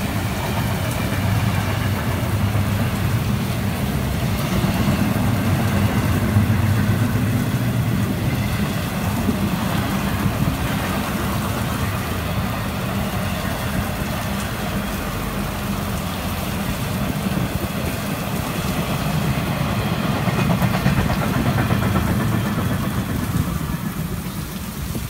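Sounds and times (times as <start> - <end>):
freight train wheels rumbling: 0.0 - 25.0
heavy rain falling: 0.0 - 25.0.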